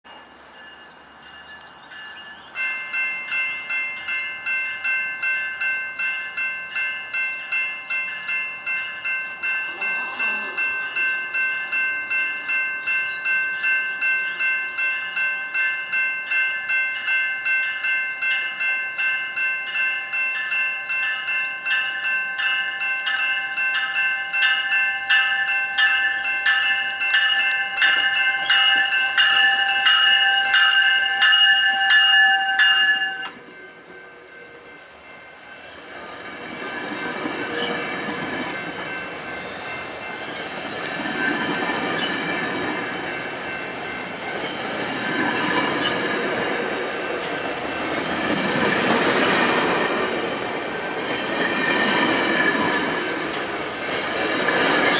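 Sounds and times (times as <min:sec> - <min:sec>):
train wheels on rails: 0:00.0 - 0:54.9
warning bell ringing: 0:00.6 - 0:54.9.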